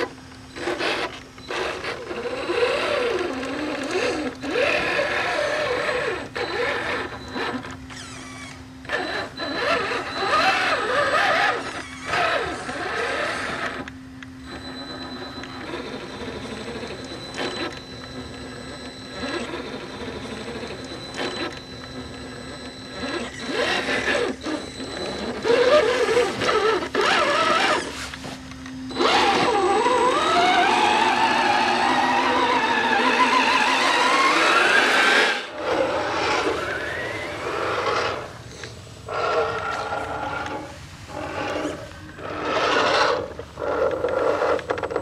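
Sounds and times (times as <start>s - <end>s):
toy truck electric motor whining: 0.0s - 45.0s.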